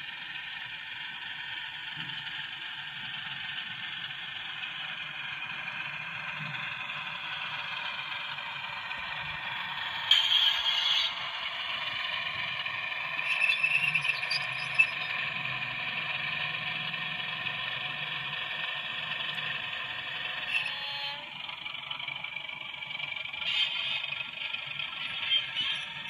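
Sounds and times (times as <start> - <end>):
model train motor whirring: 1.4 - 26.0.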